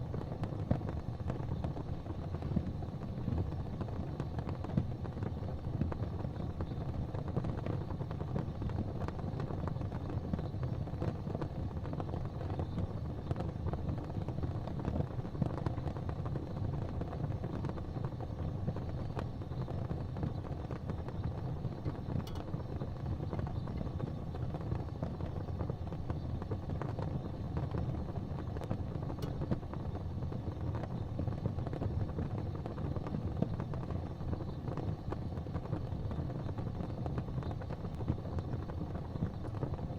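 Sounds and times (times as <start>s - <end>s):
fire burning with low rumble: 0.0s - 39.9s
fire crackling: 0.0s - 39.9s.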